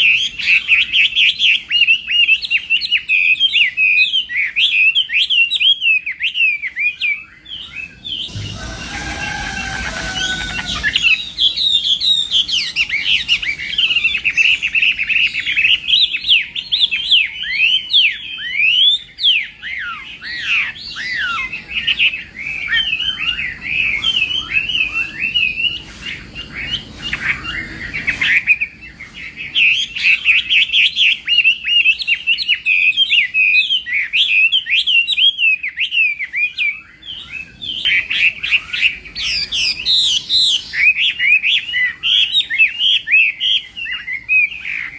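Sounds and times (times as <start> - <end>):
bird singing whistled trills: 0.0 - 44.9.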